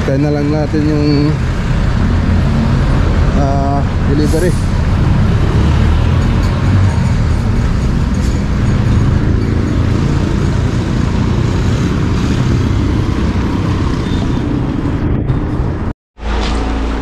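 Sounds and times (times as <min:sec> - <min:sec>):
road noise: 0:00.0 - 0:17.0
vehicle engine: 0:00.0 - 0:17.0.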